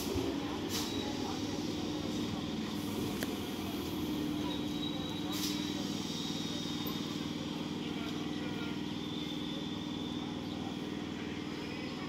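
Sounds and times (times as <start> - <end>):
train hum: 0.0 - 12.0
train wheels rumbling on track: 0.0 - 12.0.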